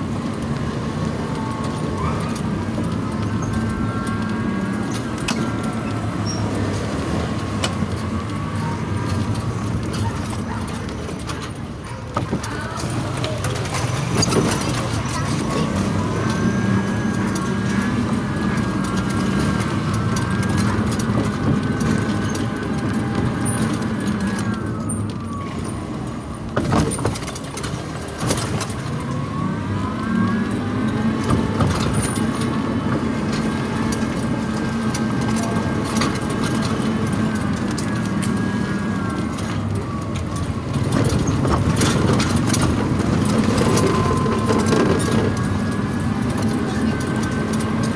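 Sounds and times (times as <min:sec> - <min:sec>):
tyre and road noise: 0:00.0 - 0:47.9.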